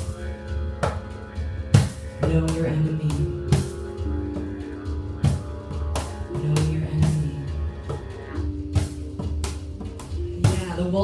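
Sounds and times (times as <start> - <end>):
bass and guitar notes: 0.0 - 11.0
drum kit beating: 0.0 - 11.0.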